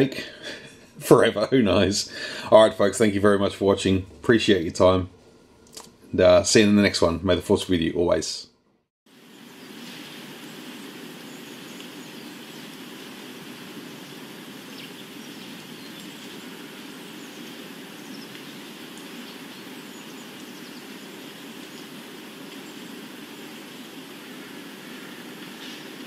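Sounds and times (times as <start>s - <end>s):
even hiss: 0.0s - 8.4s, 9.1s - 26.0s.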